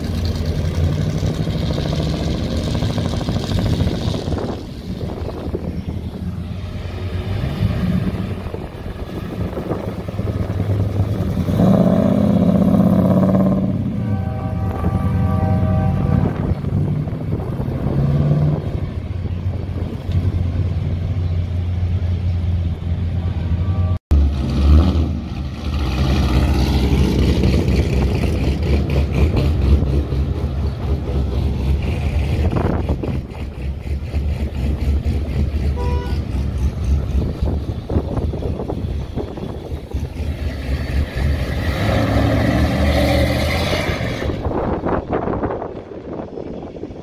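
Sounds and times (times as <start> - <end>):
cars driving off rumbling: 0.0 - 47.0.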